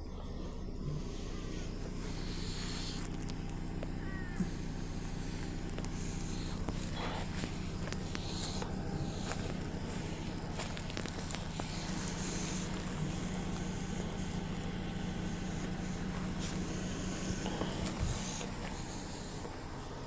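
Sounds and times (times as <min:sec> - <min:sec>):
low engine hum: 0:00.0 - 0:20.0
faint clicks and crackles: 0:01.3 - 0:20.0.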